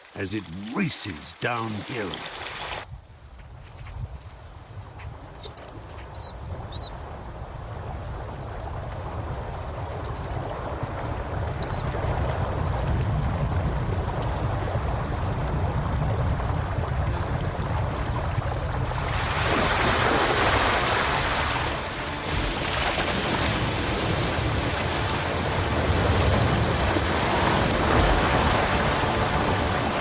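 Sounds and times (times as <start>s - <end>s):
floodwater rushing: 0.0s - 2.8s, 8.2s - 30.0s.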